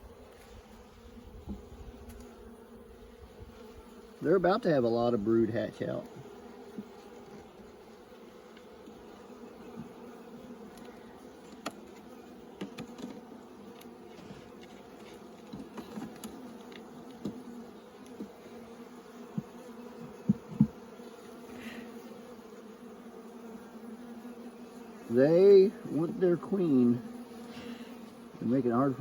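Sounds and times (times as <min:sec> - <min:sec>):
bee buzzing close by: 0:00.0 - 0:29.0
honeybees humming: 0:00.0 - 0:29.0.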